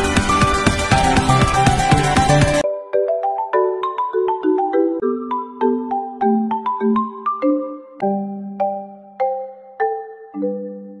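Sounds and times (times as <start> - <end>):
chiming bell-like chords: 0.0 - 11.0.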